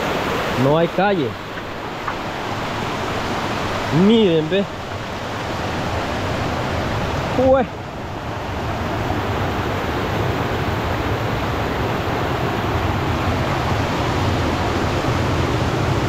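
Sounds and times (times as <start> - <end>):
floodwater rushing: 0.0 - 16.0
heavy rain: 0.0 - 16.0.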